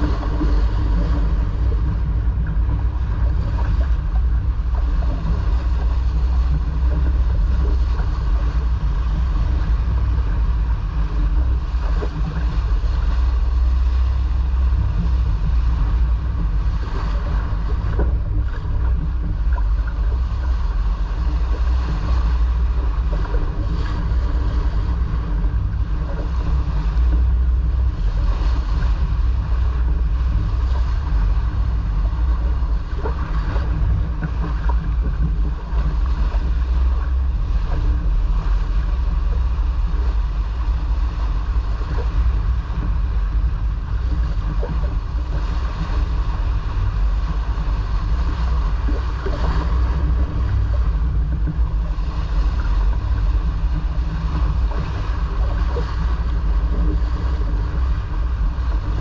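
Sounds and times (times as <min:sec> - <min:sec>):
water rushing along hull: 0:00.0 - 0:59.0
wind rumble on microphone: 0:00.0 - 0:59.0.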